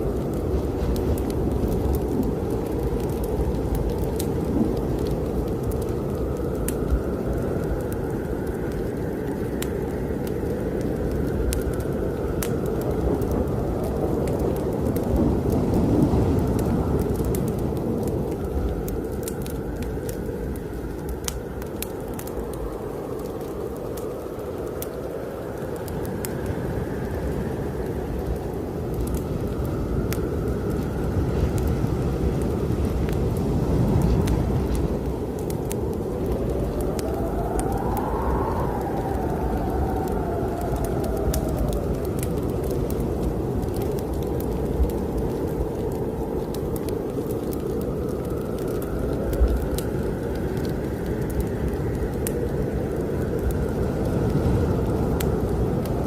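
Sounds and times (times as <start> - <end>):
wind blowing hard: 0.0 - 56.0
wood fire crackling: 0.0 - 56.0.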